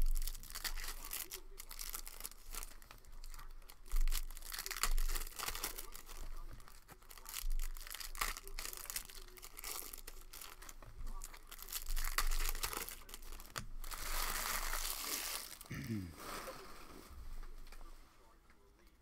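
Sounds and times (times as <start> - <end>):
plastic wrapper tearing and crinkling: 0.0 - 15.7.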